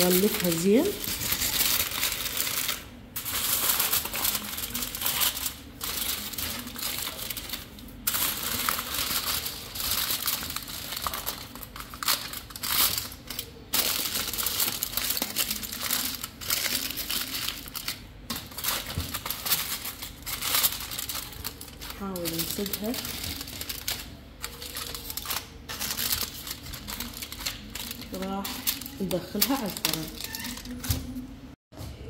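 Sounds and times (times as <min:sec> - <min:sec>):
aluminium foil crinkling: 0:00.0 - 0:31.2.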